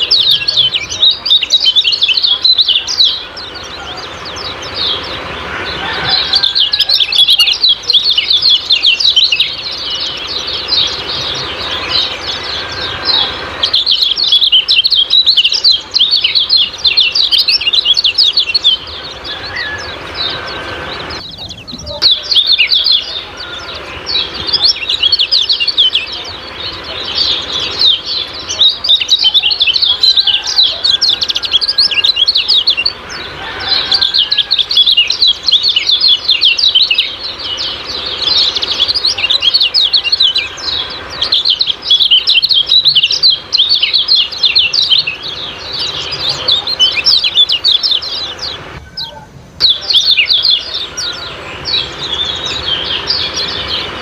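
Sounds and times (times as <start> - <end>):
bird chirping song: 0.0 - 54.0.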